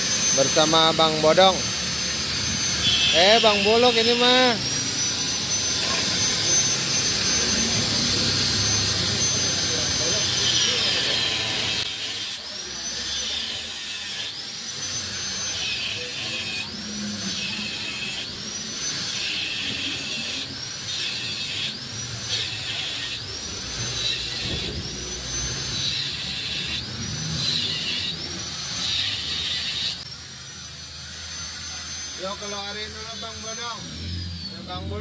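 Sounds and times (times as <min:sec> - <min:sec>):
angle grinder cutting metal: 0:00.0 - 0:35.0.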